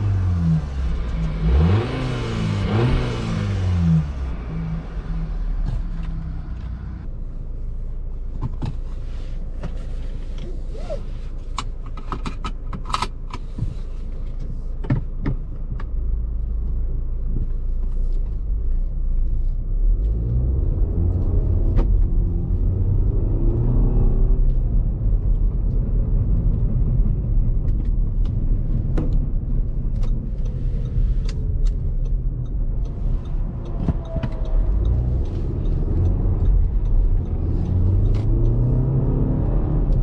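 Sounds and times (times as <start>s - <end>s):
car engine humming: 0.0s - 40.0s
road rumble: 0.0s - 40.0s.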